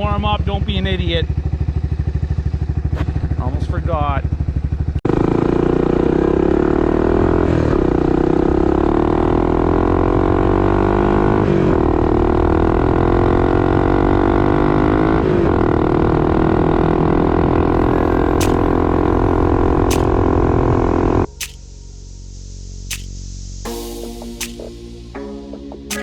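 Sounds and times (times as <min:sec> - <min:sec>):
atv engine running under load: 0:00.0 - 0:21.3.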